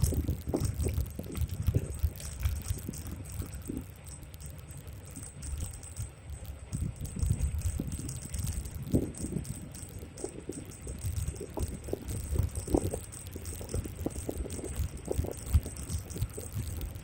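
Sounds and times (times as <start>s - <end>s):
electric scooter rattling: 0.0s - 17.0s
wind on microphone: 0.0s - 17.0s.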